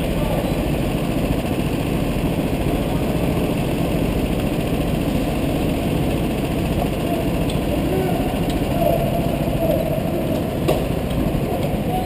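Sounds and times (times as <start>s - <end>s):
go-kart engines idling: 0.0s - 12.0s.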